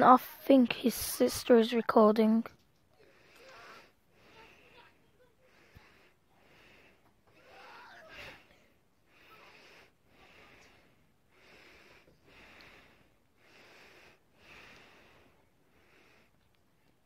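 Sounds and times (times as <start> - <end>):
heavy breathing: 2.9 - 16.9.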